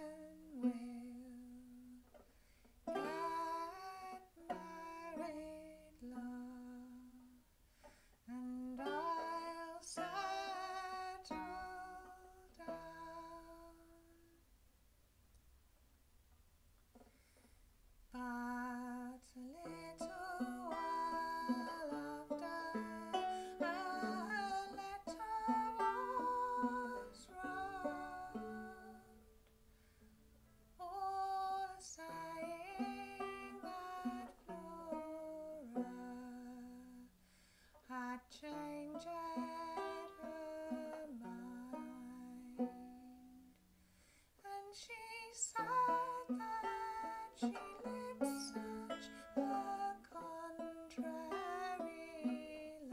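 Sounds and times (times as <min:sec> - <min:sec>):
woman singing: 0:00.0 - 0:02.2, 0:02.9 - 0:07.5, 0:08.2 - 0:14.4, 0:18.1 - 0:29.2, 0:30.8 - 0:37.2, 0:37.8 - 0:43.6, 0:44.4 - 0:52.9
banjo picking: 0:00.0 - 0:14.4, 0:18.0 - 0:43.8, 0:44.5 - 0:52.9.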